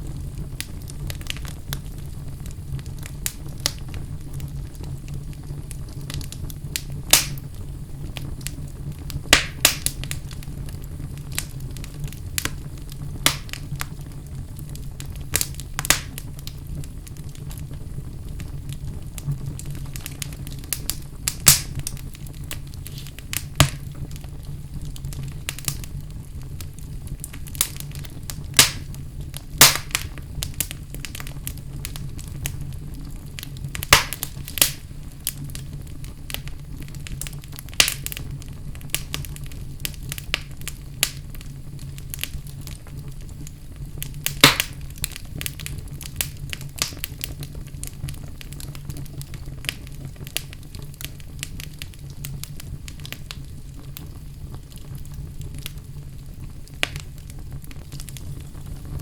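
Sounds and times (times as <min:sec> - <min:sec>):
fire crackling and popping: 0:00.0 - 0:59.0
wood fire rumbling: 0:00.0 - 0:59.0.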